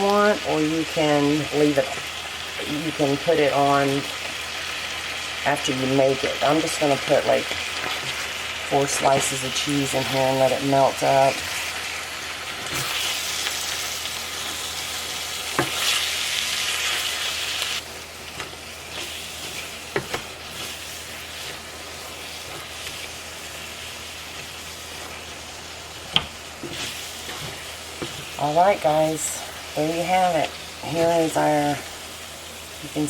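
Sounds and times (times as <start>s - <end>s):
meat mixture sizzling in a pan: 0.0s - 33.0s.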